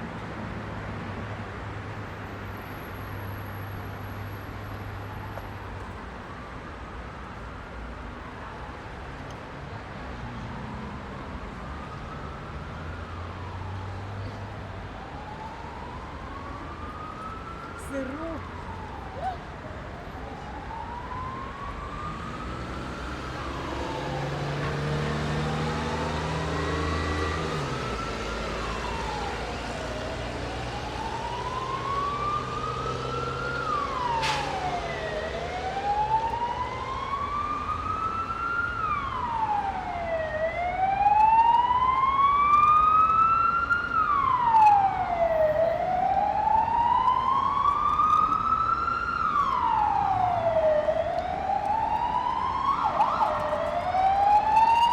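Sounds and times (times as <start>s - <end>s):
heavy city traffic rumble: 0.0s - 54.9s
emergency vehicle siren wailing: 1.1s - 54.9s.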